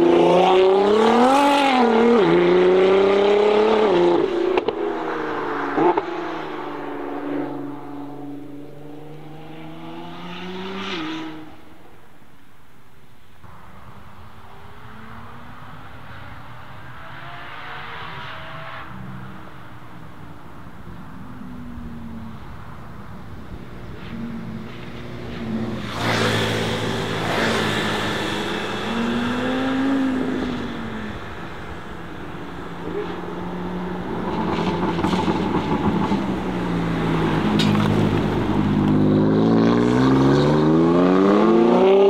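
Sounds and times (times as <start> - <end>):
vehicles passing: 0.0 - 42.0.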